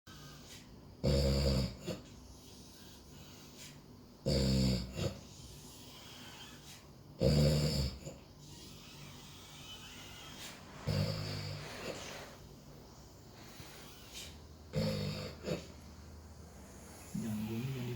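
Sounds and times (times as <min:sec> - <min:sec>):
loud rough snores: 0:01.0 - 0:12.4, 0:13.7 - 0:15.8, 0:16.6 - 0:17.9.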